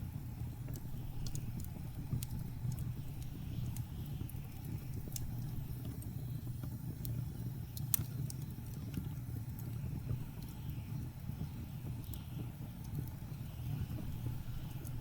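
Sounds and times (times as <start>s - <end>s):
low rumble of wind: 0.0s - 15.0s
wood fire crackling and popping: 0.0s - 15.0s.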